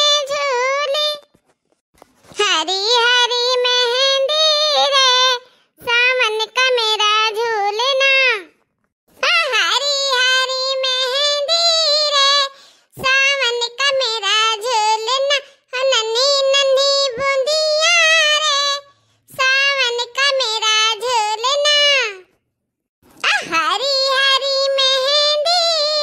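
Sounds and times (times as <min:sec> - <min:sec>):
high-pitched cartoon voice singing: 0:00.0 - 0:01.2, 0:02.4 - 0:08.5, 0:09.2 - 0:22.3, 0:23.2 - 0:26.0.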